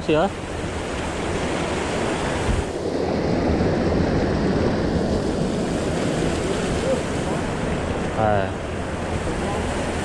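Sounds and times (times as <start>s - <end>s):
white water rushing through weir: 0.0s - 10.0s.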